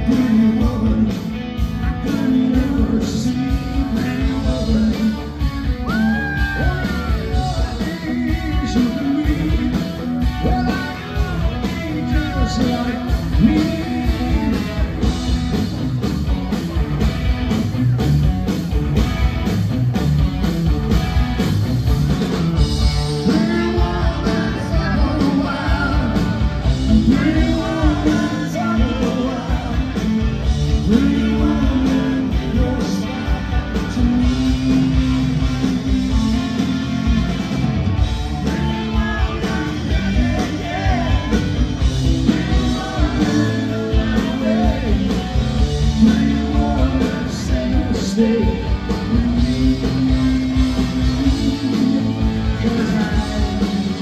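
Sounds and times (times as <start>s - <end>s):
singer singing: 0.0s - 15.4s, 22.9s - 37.3s, 38.4s - 54.0s
bass guitar: 0.0s - 54.0s
distorted electric guitars: 0.0s - 54.0s
drum kit: 0.0s - 54.0s.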